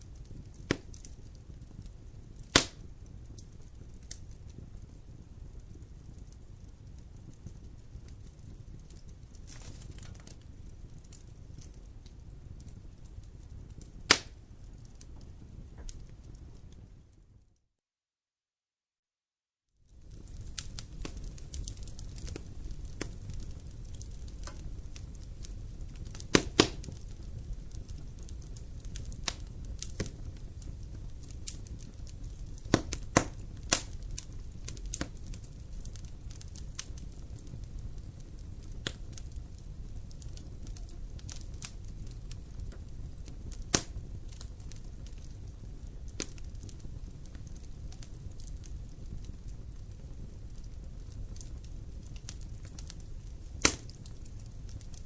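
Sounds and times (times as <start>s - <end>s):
wood fire crackling: 0.0s - 17.6s, 19.8s - 55.0s.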